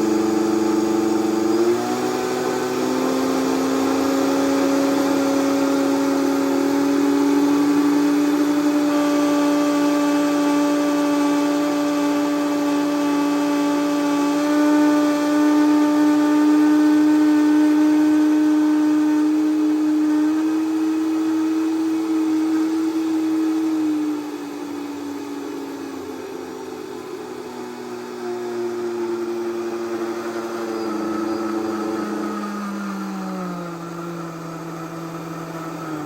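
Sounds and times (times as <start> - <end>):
blender grinding coffee beans: 0.0 - 36.0.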